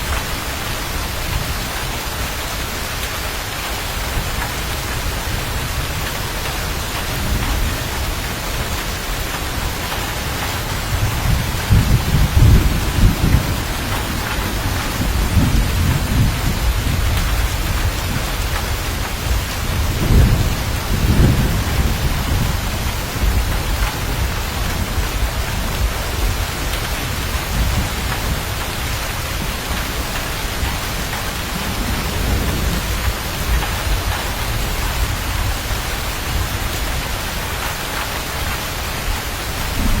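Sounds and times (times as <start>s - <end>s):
heavy rain: 0.0s - 40.0s
low rolling thunder: 3.6s - 40.0s.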